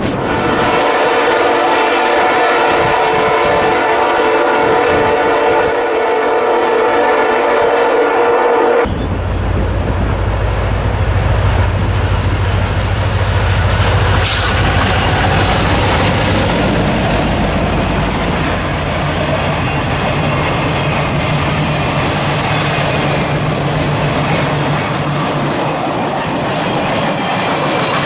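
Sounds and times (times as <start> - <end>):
wheels rumbling on rails: 0.0 - 3.8, 8.9 - 28.0
diesel locomotive engine drone: 0.0 - 28.0.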